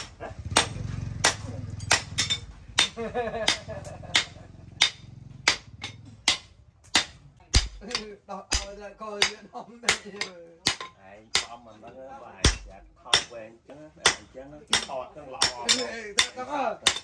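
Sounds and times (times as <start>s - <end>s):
hammer striking hot metal on anvil: 0.0s - 11.6s, 12.4s - 13.4s, 14.0s - 17.0s.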